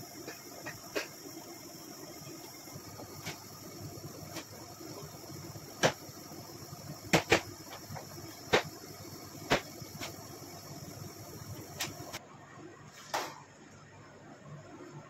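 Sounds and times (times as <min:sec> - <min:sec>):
steady hiss: 0:00.0 - 0:12.2.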